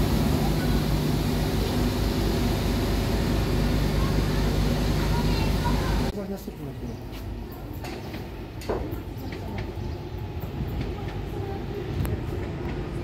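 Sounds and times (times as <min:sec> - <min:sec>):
train rumble: 0:00.0 - 0:06.2, 0:07.2 - 0:13.0.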